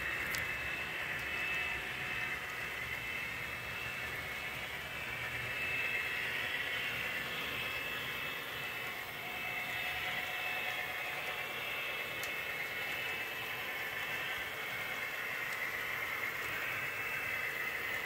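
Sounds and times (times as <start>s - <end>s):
model train motors whirring: 0.0s - 18.0s
wheels rolling on track: 0.0s - 18.0s.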